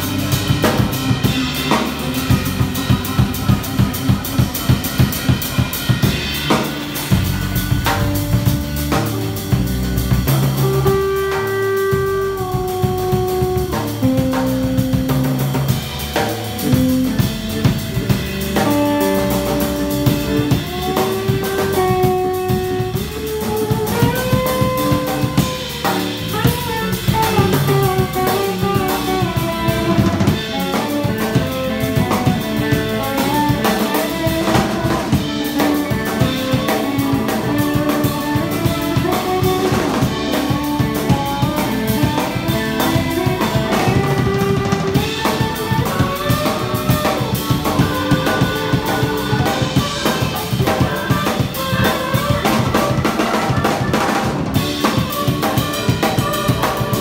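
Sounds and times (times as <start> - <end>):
drum kit beat: 0.0 - 57.0
electric bass: 0.0 - 57.0.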